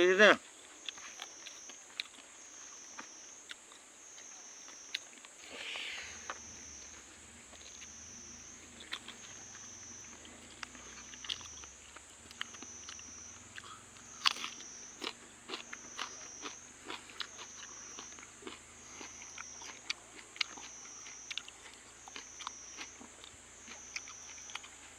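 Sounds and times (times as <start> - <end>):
person chewing with crunches: 0.4 - 24.9.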